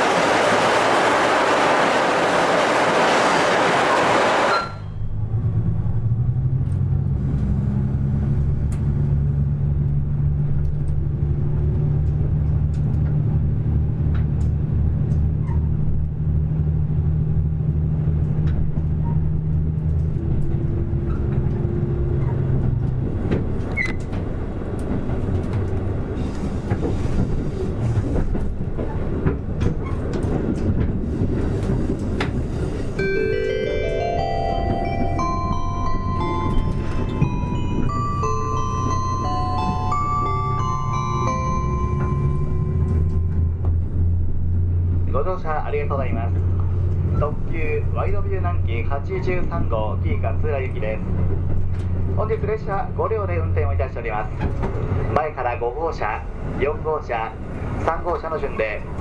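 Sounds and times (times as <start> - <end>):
train diesel engine droning: 0.0 - 59.0
train rolling rumble: 0.0 - 59.0.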